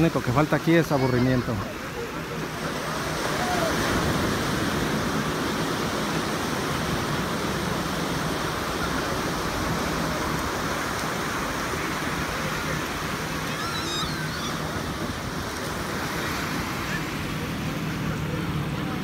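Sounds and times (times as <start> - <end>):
small surf breaking on beach: 0.0 - 19.0.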